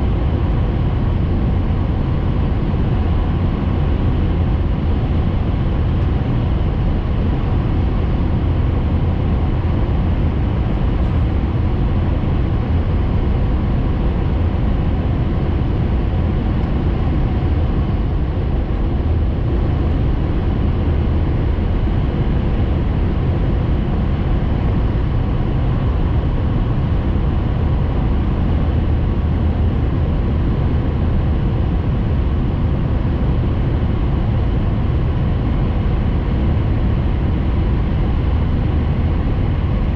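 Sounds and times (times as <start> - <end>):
train rumble inside cabin: 0.0 - 39.9.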